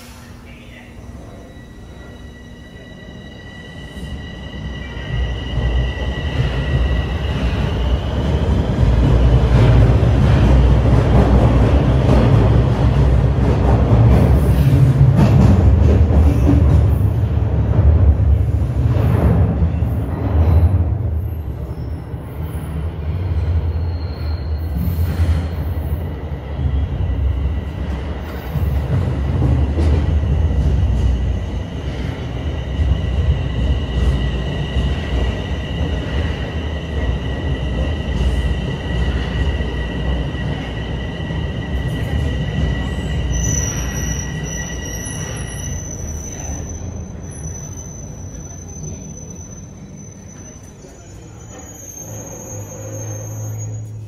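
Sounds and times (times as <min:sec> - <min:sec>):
train brakes squealing: 0:00.0 - 0:09.4, 0:19.6 - 0:54.0
subway train rumbling: 0:00.0 - 0:54.0.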